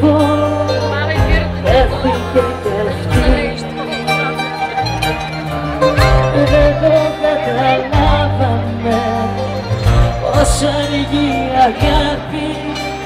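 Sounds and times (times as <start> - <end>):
bass line: 0.0 - 13.0
live pop band playing: 0.0 - 13.0
person singing: 0.0 - 13.0.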